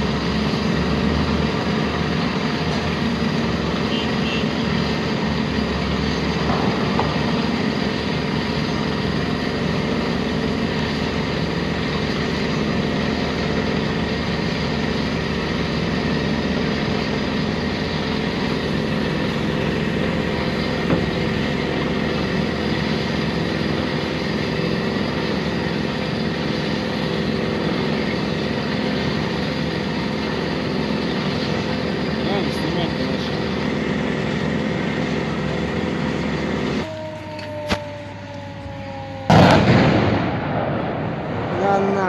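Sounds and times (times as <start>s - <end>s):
heavy engine droning: 0.0s - 42.0s.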